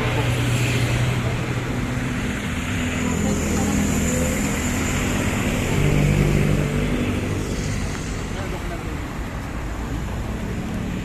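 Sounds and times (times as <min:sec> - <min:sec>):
road traffic engine hum: 0:00.0 - 0:11.0.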